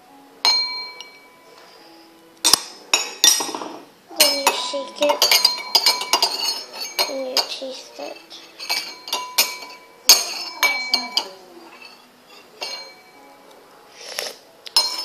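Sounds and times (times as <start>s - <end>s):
glass clinking: 0.4s - 1.8s, 2.4s - 13.4s, 14.7s - 15.0s.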